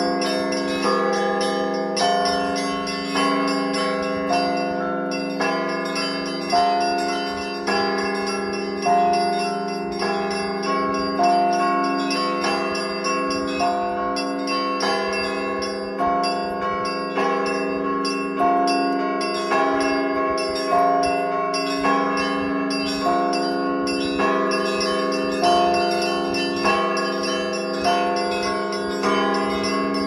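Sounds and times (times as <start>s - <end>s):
large church bell striking: 0.0s - 30.0s
small bells ringing: 0.0s - 30.0s.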